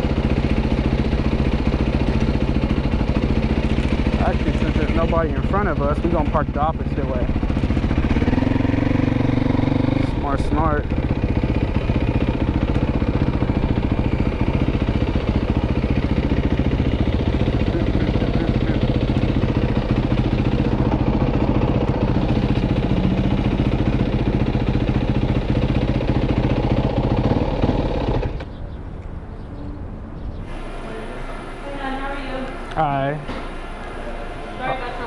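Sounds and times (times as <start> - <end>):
motorcycle engine running at low revs: 0.0 - 35.0.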